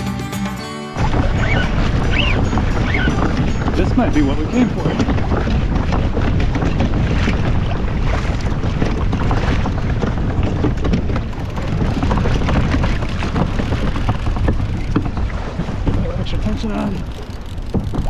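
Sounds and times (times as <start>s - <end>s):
waves slapping against a hull: 1.0s - 18.0s
wind buffeting microphone: 1.0s - 18.0s.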